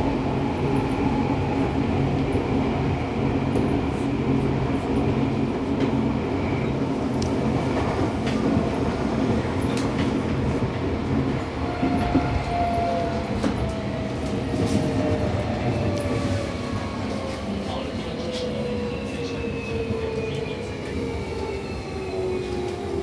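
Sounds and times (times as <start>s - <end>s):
steady train whine: 0.0s - 23.0s
wheel and rail rumble: 0.0s - 23.0s.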